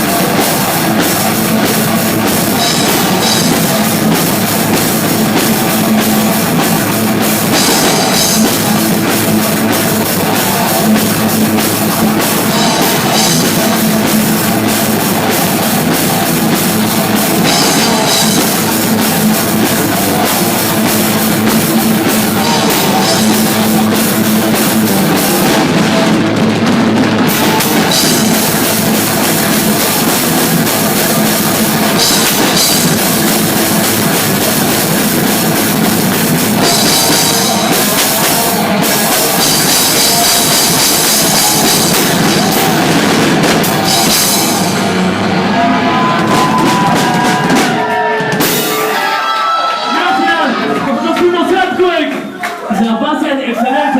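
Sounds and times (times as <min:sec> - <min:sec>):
driving drum kit: 0:00.0 - 0:52.4
guitar: 0:00.0 - 0:52.8
heavy rock band playing: 0:00.0 - 0:53.6.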